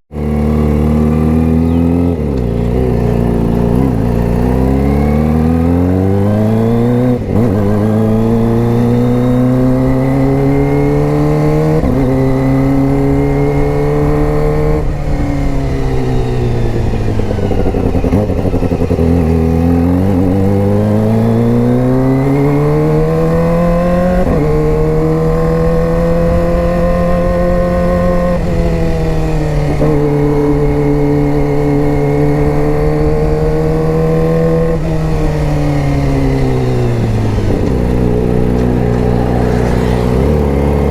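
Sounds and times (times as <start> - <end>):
motorcycle engine revving high: 0.1 - 40.9.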